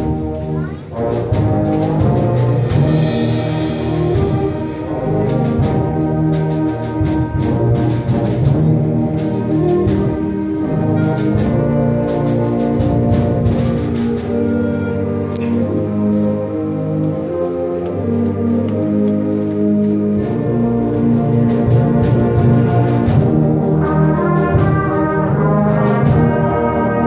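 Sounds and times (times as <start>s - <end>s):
percussion strikes: 0.0s - 15.9s, 20.1s - 27.0s
concert band playing chords: 0.0s - 27.0s.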